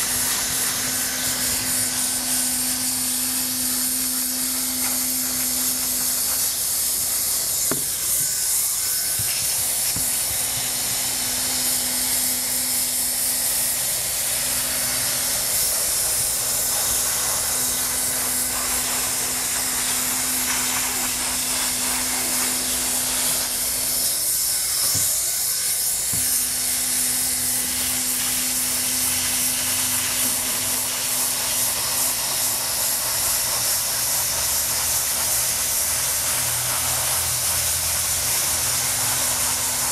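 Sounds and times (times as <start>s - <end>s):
hot-air welding gun hissing: 0.0s - 39.9s.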